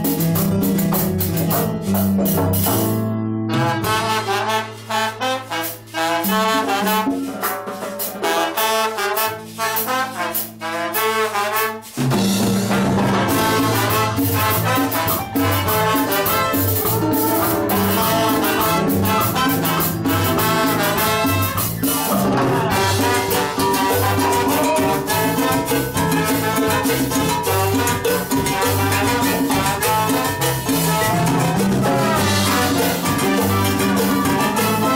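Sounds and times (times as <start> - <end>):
bass line: 0.0 - 5.2, 12.1 - 34.9
brass section playing: 0.0 - 34.9
percussion: 0.0 - 34.9.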